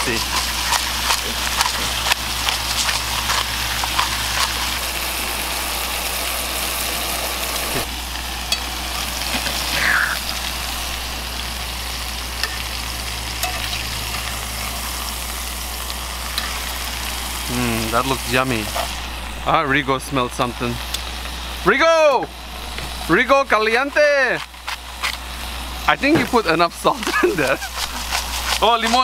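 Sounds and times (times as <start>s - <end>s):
fish sizzling in oil: 0.0s - 29.0s.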